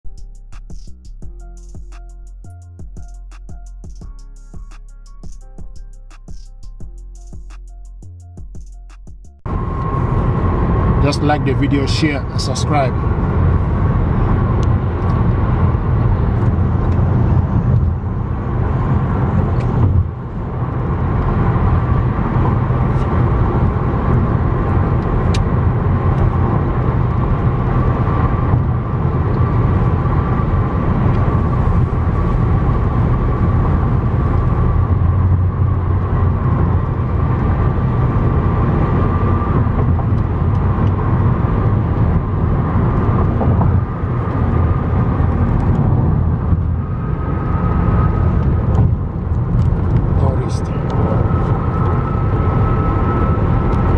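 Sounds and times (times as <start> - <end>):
road and tyre noise: 0.0 - 53.9.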